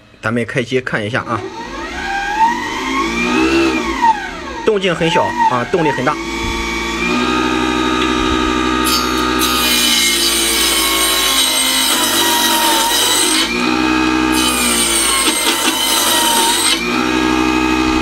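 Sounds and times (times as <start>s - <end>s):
table saw cutting wood: 1.2s - 18.0s.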